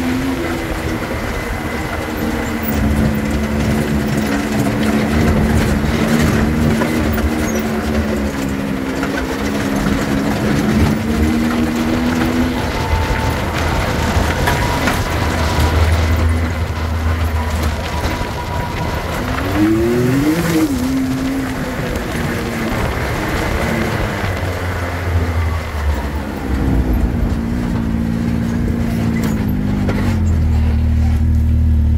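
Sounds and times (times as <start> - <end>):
off-road vehicle engine: 0.0 - 31.9
tyres rumbling on gravel: 0.0 - 31.9
vehicle rattling over stones: 0.0 - 31.9.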